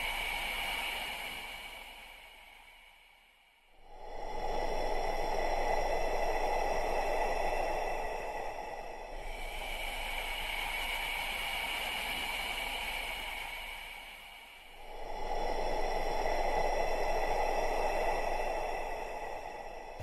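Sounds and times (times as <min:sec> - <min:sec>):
slow human breathing: 0:03.8 - 0:20.0.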